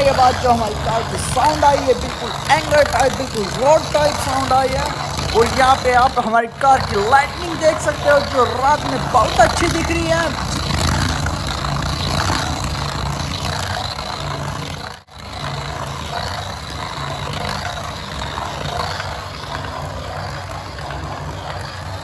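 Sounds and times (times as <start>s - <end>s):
plastic wheels grinding on floor: 0.0s - 22.0s
toy car motor whirring: 0.0s - 22.0s.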